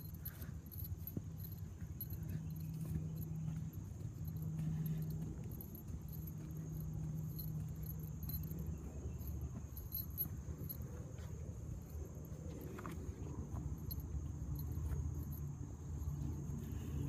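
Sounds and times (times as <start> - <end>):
insects droning and chirping: 0.0 - 17.0.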